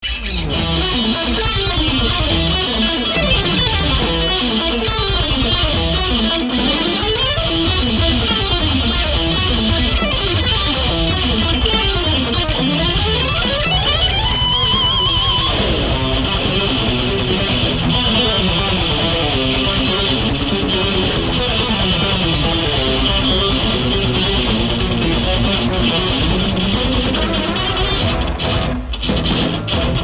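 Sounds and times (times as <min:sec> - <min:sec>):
backing track: 0:00.0 - 0:30.0
electric guitar note runs: 0:00.0 - 0:30.0.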